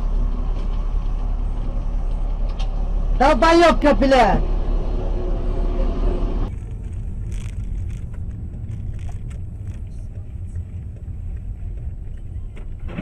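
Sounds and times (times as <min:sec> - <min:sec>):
car road and engine rumble: 0:00.0 - 0:13.0
loud rumble: 0:00.0 - 0:13.0.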